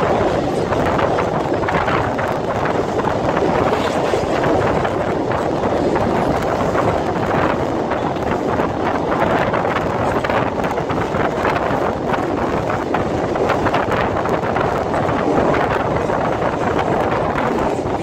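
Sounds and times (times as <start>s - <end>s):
rushing air: 0.0s - 18.0s
train wheels clattering on rails: 0.0s - 18.0s.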